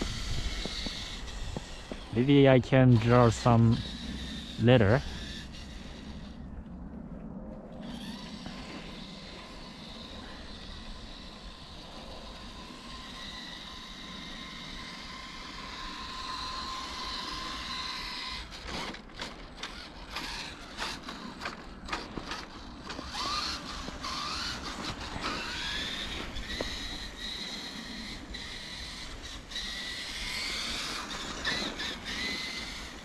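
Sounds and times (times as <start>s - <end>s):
rc truck motor whining: 0.0s - 6.9s, 7.6s - 33.0s.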